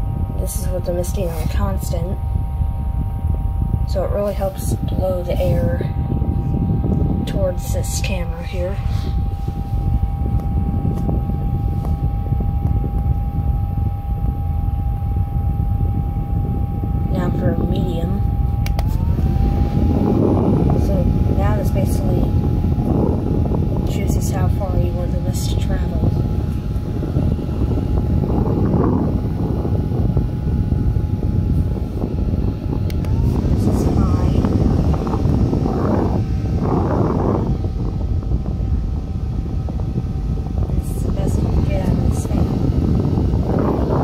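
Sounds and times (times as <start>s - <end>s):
fan airstream buffeting microphone: 0.0s - 44.0s
thin fan whine: 0.0s - 44.0s.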